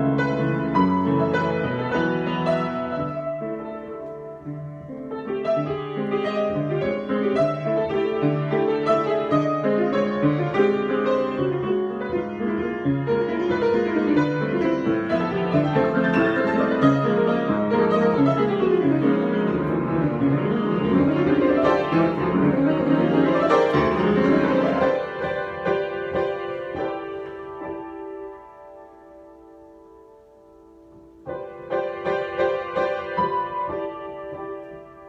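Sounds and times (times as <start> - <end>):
solo piano: 0.0 - 35.0.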